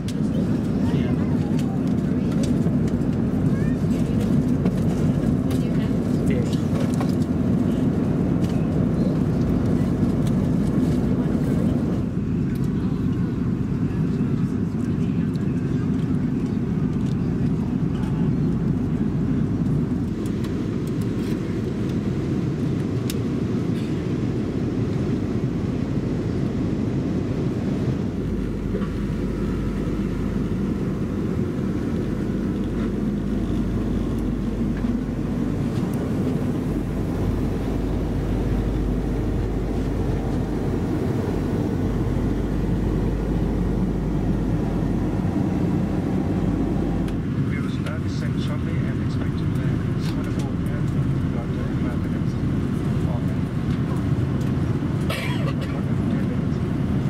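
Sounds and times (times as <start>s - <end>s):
airplane cabin noise: 0.0s - 57.0s.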